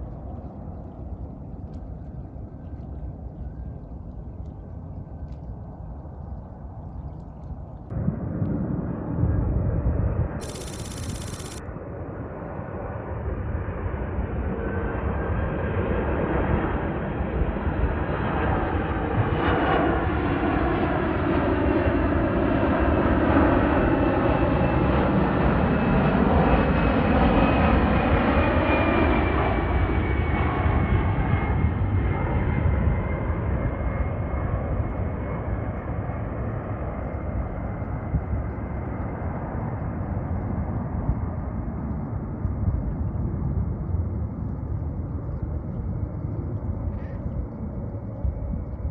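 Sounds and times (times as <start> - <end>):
jet engine noise: 5.6 - 48.9.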